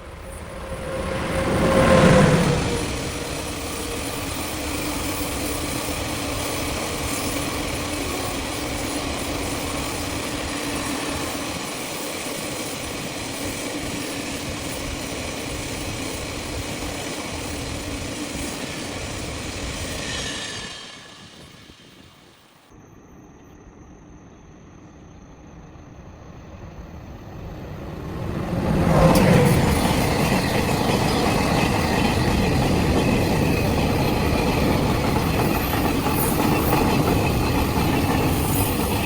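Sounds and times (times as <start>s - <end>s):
train rumbling: 0.0s - 22.6s, 25.9s - 39.0s.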